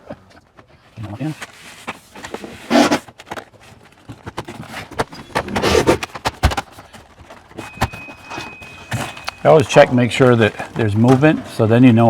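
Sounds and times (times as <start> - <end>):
siding panel rattling and scraping: 1.1 - 12.0.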